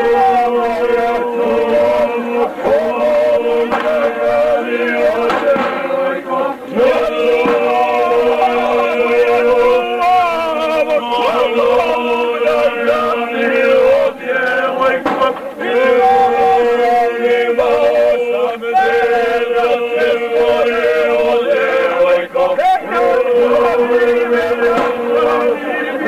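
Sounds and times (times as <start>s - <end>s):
men singing in chant: 0.0s - 26.0s.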